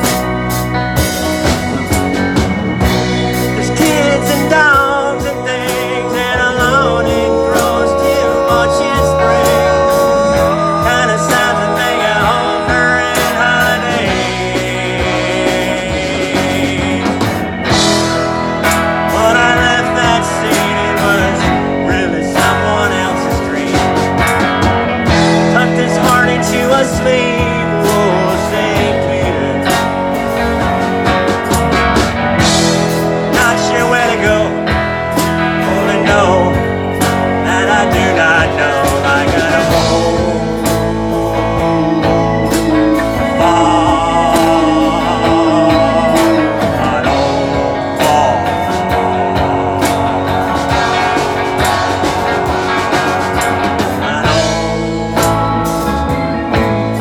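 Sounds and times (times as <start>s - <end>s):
live band playing country-rock: 0.0s - 57.0s.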